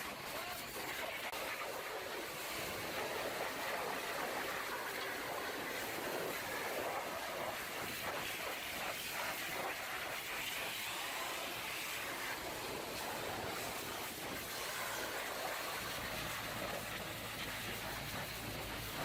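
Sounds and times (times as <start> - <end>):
pressure washer spray hissing: 0.0 - 19.0.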